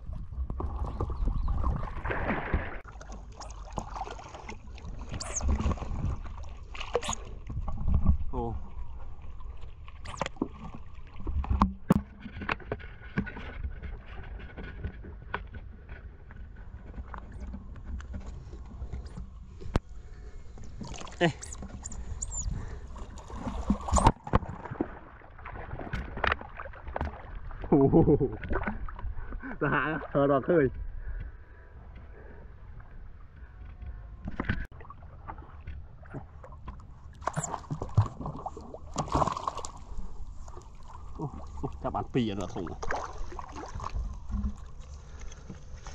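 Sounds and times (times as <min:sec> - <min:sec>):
water sloshing and lapping: 0:00.0 - 0:45.9.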